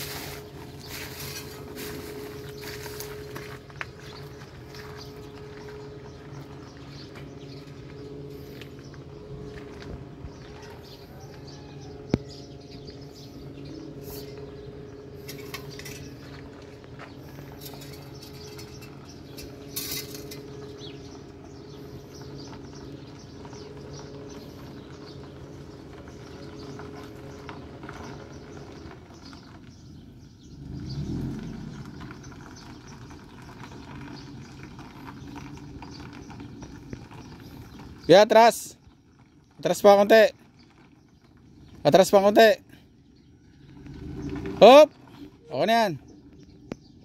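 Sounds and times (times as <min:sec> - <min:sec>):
birds chirping: 0:00.0 - 0:47.0
truck engine idling: 0:00.0 - 0:47.0.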